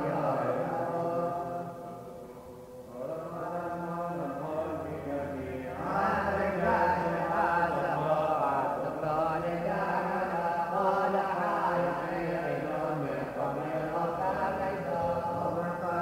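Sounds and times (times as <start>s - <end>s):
voices singing liturgical chant: 0.0s - 16.0s.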